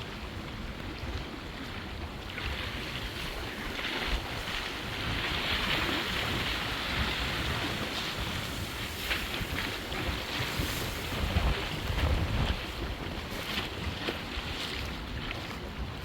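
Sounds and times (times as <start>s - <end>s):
river waves splashing: 0.0s - 16.0s
wind rumbling on microphone: 0.0s - 16.0s.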